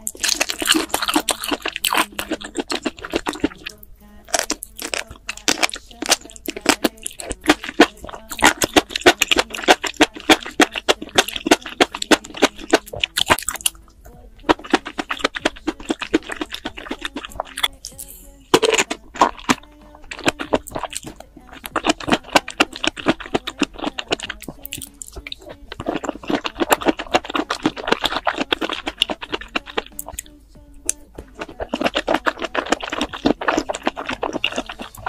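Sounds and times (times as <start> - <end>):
wet chewing and crunching: 0.0 - 35.0.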